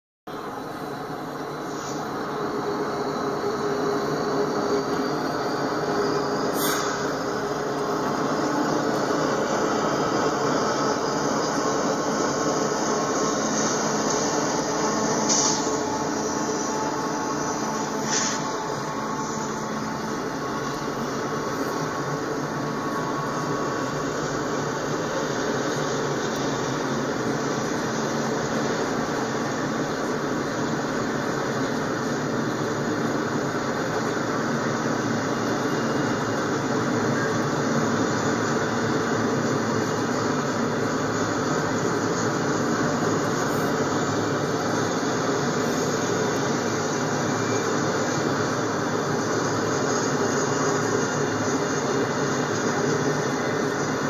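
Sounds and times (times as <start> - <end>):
faint steady tone: 0.3 - 54.0
freight train passing: 0.3 - 54.0.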